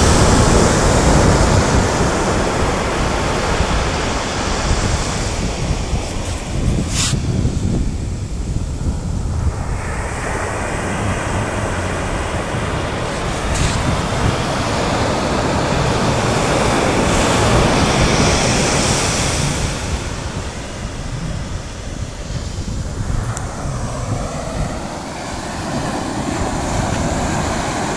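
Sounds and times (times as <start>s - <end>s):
surf washing on sandy beach: 0.0s - 27.9s
wind buffeting microphone: 0.0s - 27.9s.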